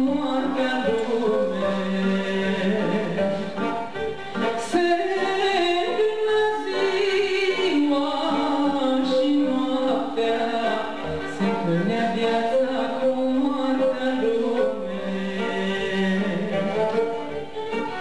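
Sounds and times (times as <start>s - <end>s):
violin accompaniment: 0.0s - 18.0s
woman singing into a microphone: 0.0s - 18.0s.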